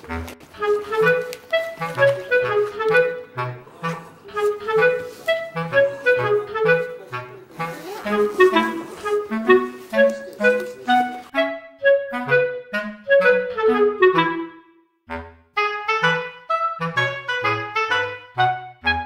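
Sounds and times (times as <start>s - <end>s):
background music melody: 0.0s - 19.0s.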